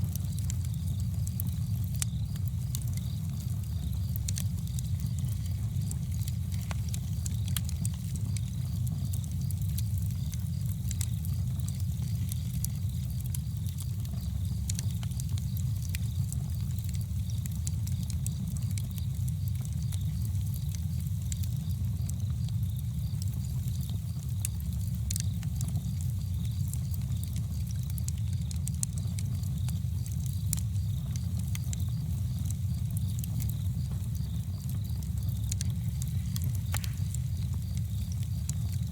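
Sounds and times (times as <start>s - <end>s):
fire low rumble: 0.0s - 38.9s
wood crackling and popping: 0.0s - 38.9s.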